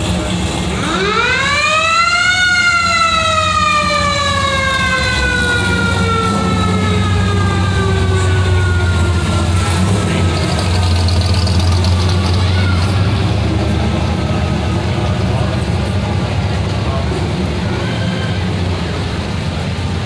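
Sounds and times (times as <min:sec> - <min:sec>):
engines idling: 0:00.0 - 0:20.0.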